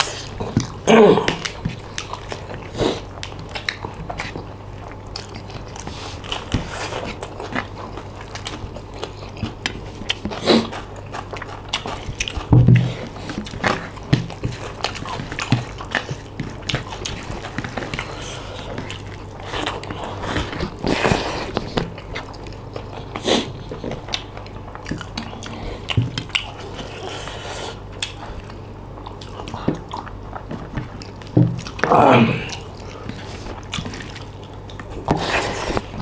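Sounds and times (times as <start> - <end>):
people chewing: 0.0 - 36.0.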